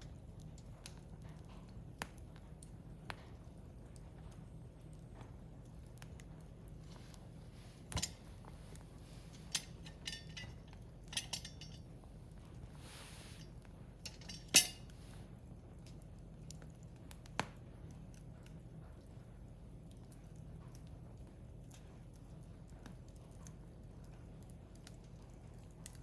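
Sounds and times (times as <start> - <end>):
firewood crackling and popping: 0.0 - 26.0
soft fire hiss: 0.0 - 26.0.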